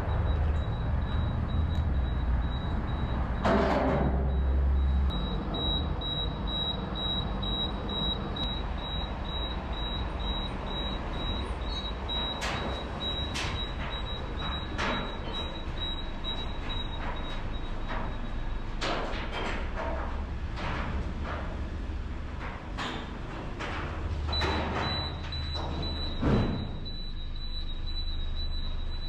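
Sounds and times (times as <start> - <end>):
car lift warning beeps: 0.0 - 19.0, 24.3 - 29.0.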